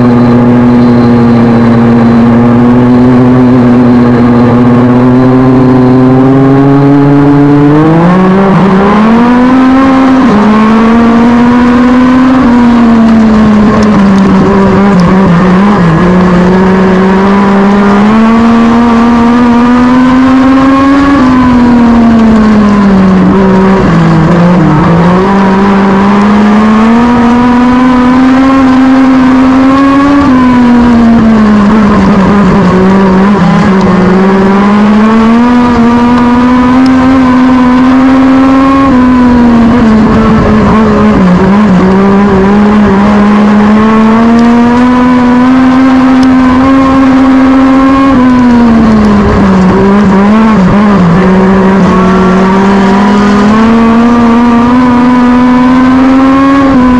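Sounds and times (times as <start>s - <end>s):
racing car engine revving: 0.0s - 56.9s.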